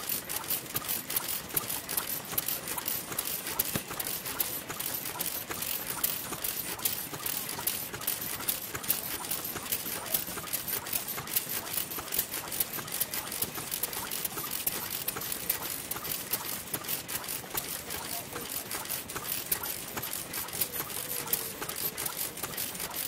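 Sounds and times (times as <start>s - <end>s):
old engines running: 0.0s - 23.0s
stationary engine ticking and clattering: 0.0s - 23.0s.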